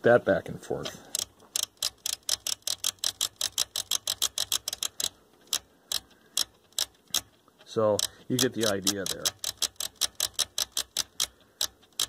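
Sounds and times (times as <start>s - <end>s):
rotary switch clicking: 0.8s - 12.0s.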